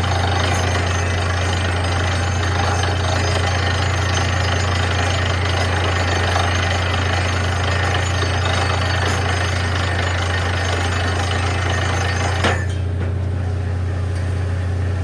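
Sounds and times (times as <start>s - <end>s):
noisy hammering: 0.0s - 12.8s
drilling rig engine drone: 0.0s - 13.5s.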